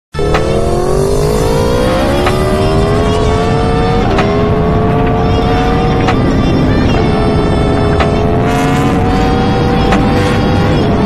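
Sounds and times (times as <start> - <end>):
wind and road rush: 0.1 - 11.0
motorcycle engine at full throttle: 0.2 - 11.0.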